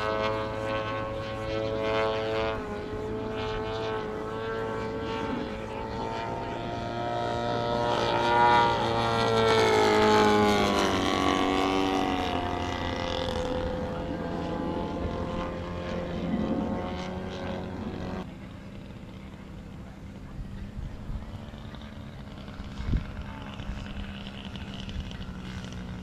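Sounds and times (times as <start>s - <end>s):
model airplane engine flying past: 0.0s - 26.0s.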